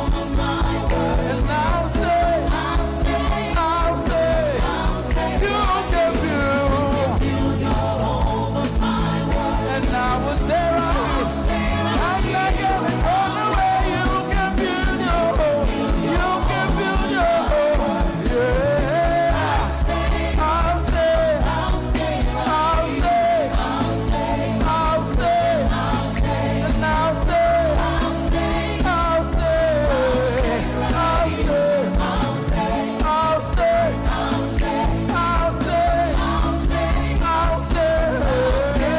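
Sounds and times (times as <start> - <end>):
bass line: 0.0 - 38.9
melodic lead line: 0.0 - 38.9
steady drum beat: 0.0 - 38.9.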